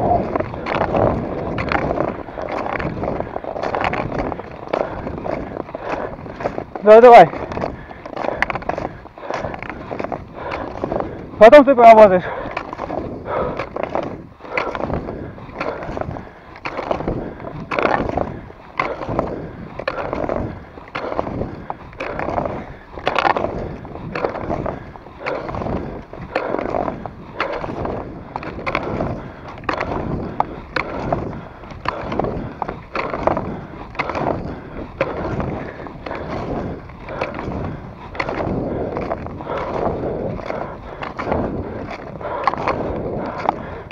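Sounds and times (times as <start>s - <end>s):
skis scraping and gliding on snow: 0.0s - 43.9s.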